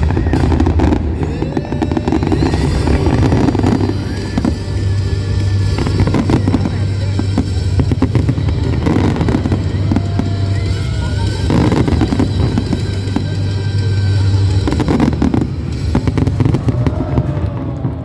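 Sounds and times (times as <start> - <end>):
fireworks bangs and crackles: 0.0 - 18.0
low rumble: 0.0 - 18.0.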